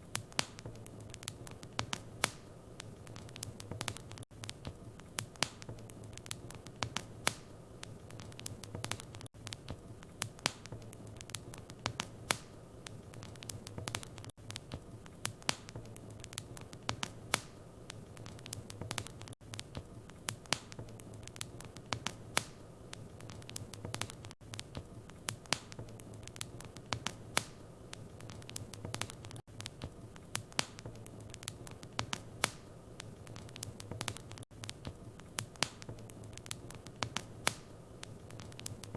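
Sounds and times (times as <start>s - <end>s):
fire hissing: 0.0s - 38.9s
wood fire crackling and popping: 0.0s - 38.9s.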